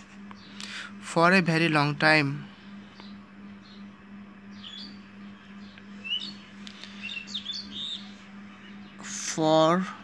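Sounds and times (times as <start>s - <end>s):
small birds chirping: 0.0s - 10.0s
steady low hum: 0.0s - 10.0s.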